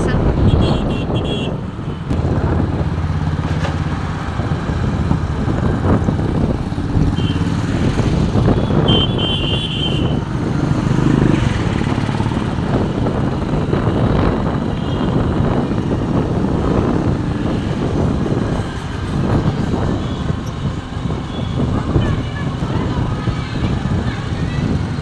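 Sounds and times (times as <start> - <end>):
motorcycle engines running: 0.0 - 25.0
road and wind noise: 0.0 - 25.0.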